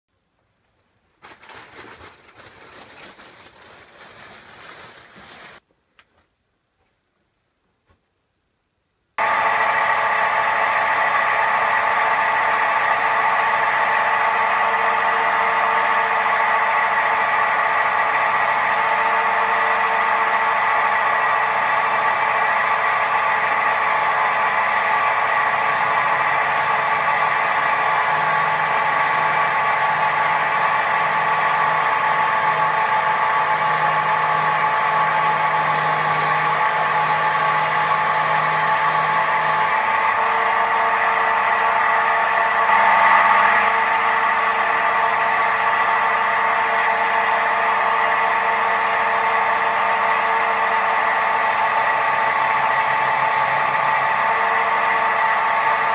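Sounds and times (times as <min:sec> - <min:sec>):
wood lathe humming: 0:09.2 - 0:55.9.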